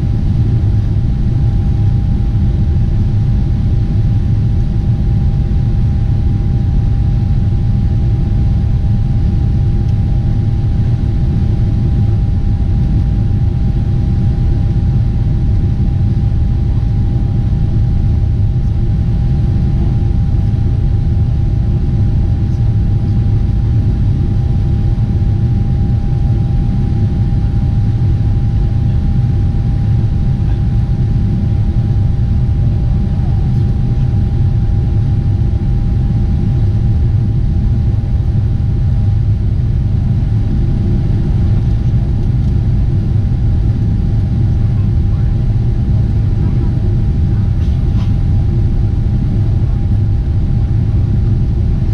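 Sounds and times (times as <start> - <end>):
airplane cabin rumble: 0.0 - 51.9
constant thin whine: 0.0 - 51.9.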